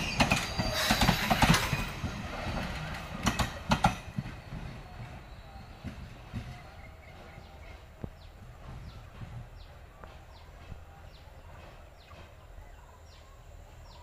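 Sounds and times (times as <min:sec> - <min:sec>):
faint low train rumble: 0:00.0 - 0:14.0.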